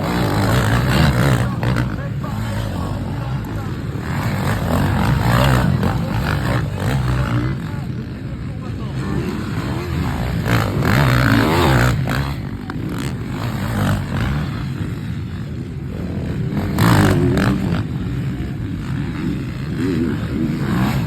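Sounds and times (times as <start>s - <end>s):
motorcycles revving past: 0.0s - 21.0s.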